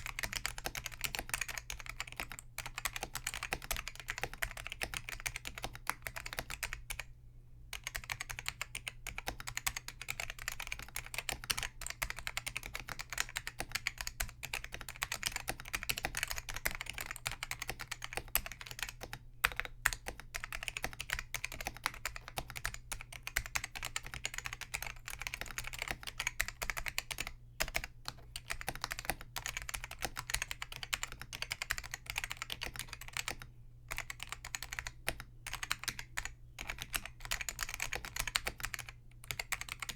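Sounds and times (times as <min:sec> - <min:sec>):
fast mechanical keyboard typing: 0:00.0 - 0:07.1, 0:07.8 - 0:39.9.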